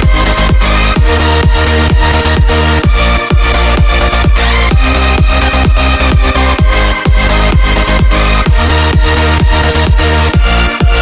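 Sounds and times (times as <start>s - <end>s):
electronic dance music: 0.0s - 11.0s
pounding kick drum: 0.0s - 11.0s.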